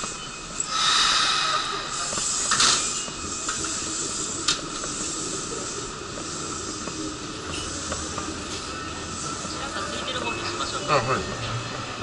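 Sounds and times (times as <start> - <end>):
standing train hissing: 0.0 - 11.9
low train rumble: 0.0 - 12.0.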